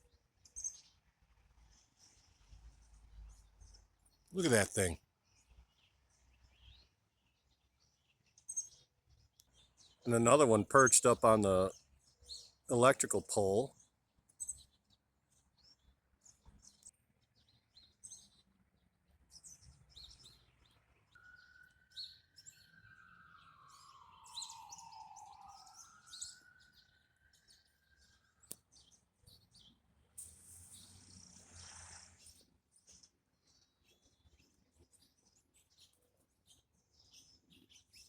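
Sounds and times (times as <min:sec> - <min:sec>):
faint bird chirps: 0:00.0 - 0:38.0.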